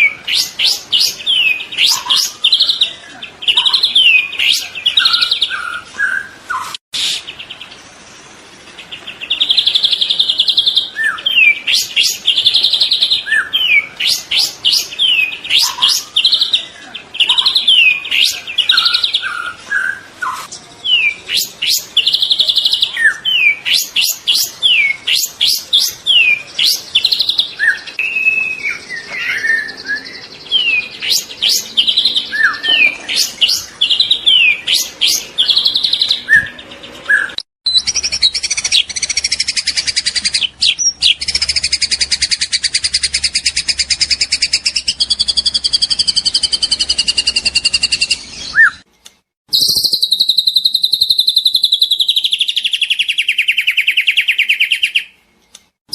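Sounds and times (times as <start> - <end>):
bird singing whistles and chirps: 0.0 - 7.4, 9.2 - 48.9, 49.5 - 55.1.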